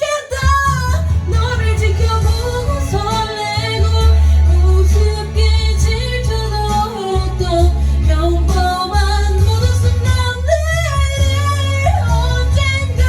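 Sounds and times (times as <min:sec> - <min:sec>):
karaoke backing track: 0:00.0 - 0:13.0
woman singing a ballad: 0:00.0 - 0:13.0.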